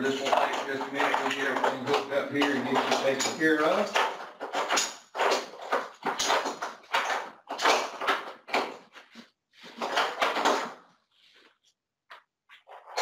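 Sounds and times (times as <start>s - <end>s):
straps and clips clattering: 0.0s - 11.5s.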